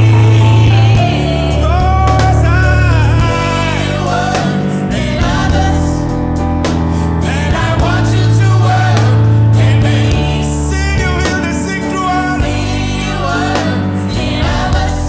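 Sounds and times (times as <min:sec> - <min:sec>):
band playing: 0:00.0 - 0:15.0
gospel singing: 0:00.0 - 0:15.0
long held bass notes: 0:00.0 - 0:15.0.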